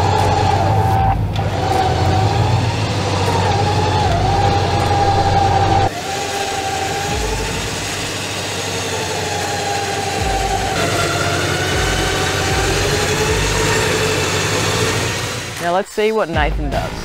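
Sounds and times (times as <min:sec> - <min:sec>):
car engine idling: 0:00.0 - 0:15.7
electric winch whining: 0:00.0 - 0:15.8.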